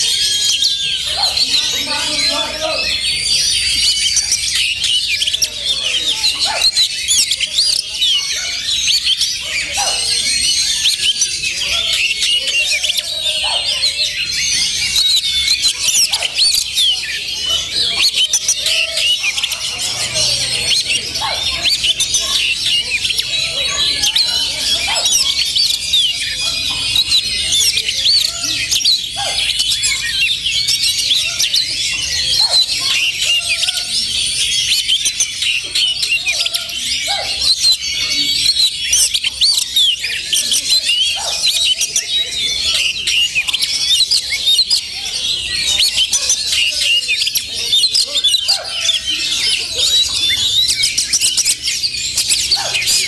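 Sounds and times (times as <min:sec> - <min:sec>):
magpie-robins singing chorus: 0:00.0 - 0:53.0.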